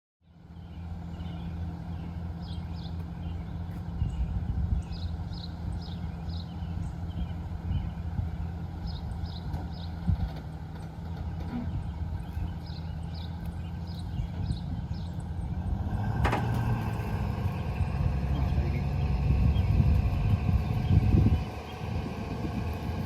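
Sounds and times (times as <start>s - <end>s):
vehicle engine running: 0.2s - 23.0s.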